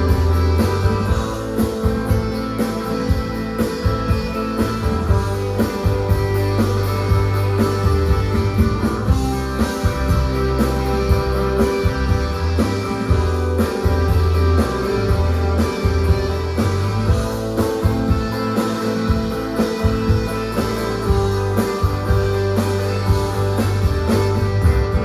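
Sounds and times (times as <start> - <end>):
rock band playing live: 0.0 - 25.0
steady drum beat: 0.0 - 25.0.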